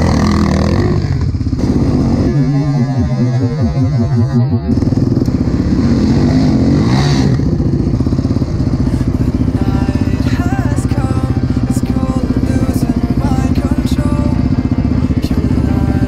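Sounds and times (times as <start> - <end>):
atv engines revving: 0.0 - 16.0.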